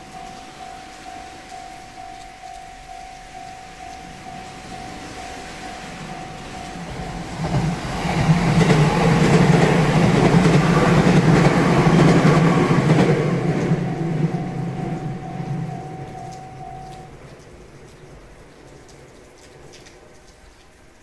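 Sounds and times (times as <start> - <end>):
crossing warning bell: 0.0 - 17.3
train rumble and wheel clatter: 0.0 - 20.3.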